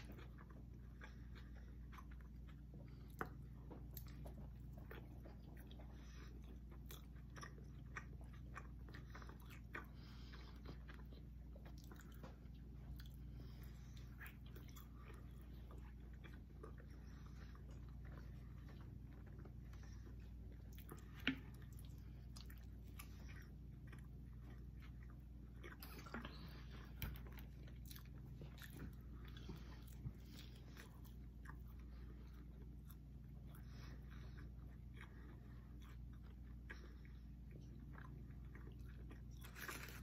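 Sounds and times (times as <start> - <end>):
low steady hum: 0.0 - 40.0
people chewing and biting: 0.0 - 40.0.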